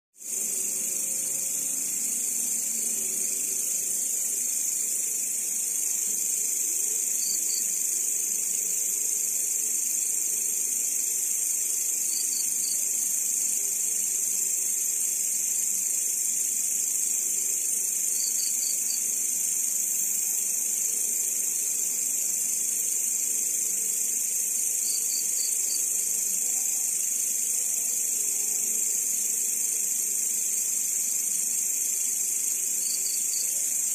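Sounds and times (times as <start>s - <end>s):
grasshoppers buzzing trill: 0.2s - 33.9s
insect rapid chirps: 0.2s - 33.9s.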